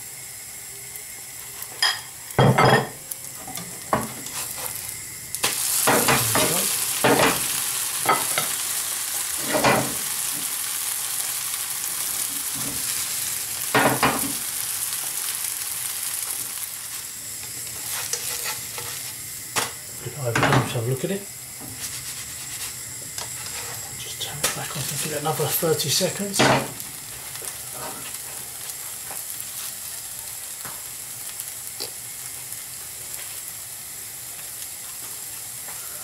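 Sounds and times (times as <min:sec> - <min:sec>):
oat cake sizzling in oil: 0:00.0 - 0:36.0.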